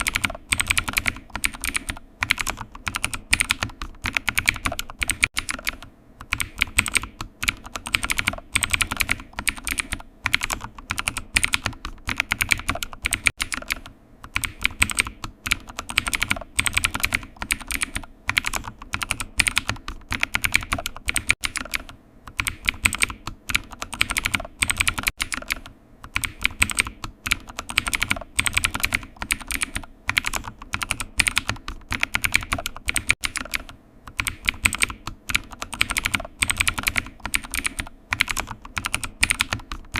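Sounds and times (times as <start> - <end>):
typing on computer keyboard: 0.0 - 39.9.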